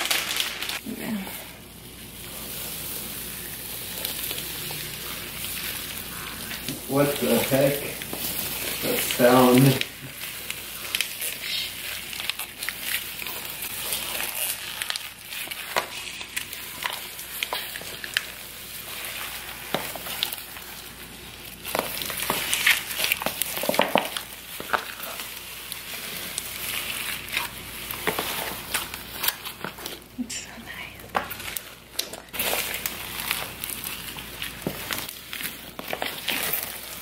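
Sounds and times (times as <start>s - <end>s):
foam beads crackling in slime: 0.0s - 37.0s.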